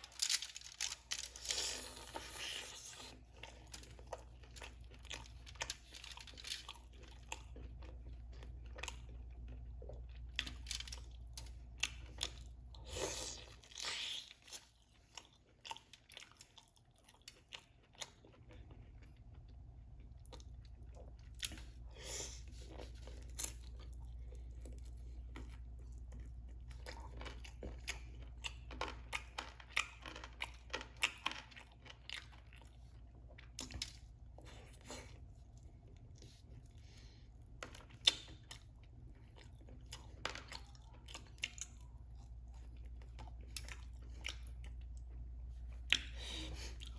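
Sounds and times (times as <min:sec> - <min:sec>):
chewing and crunching food: 0:00.0 - 0:46.9.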